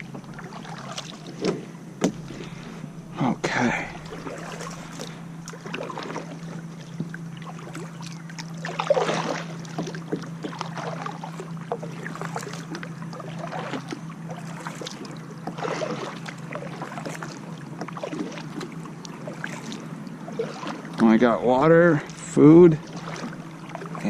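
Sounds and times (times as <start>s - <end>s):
steady low hum: 0.0s - 24.0s
water splashing around kayak: 0.0s - 24.0s.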